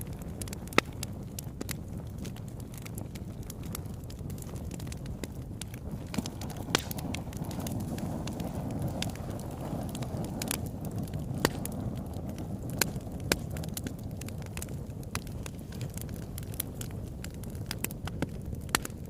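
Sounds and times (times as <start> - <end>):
fire low rumble: 0.0 - 19.0
wood fire crackling: 0.0 - 19.0.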